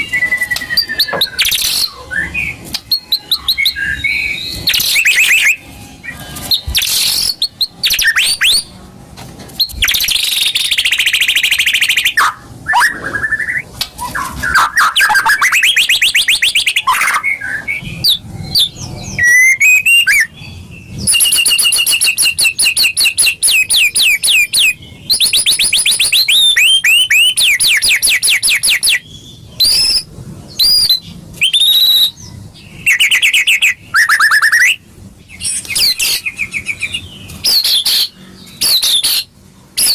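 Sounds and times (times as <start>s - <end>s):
songbird singing trills and whistles: 0.0s - 8.7s, 9.6s - 39.9s.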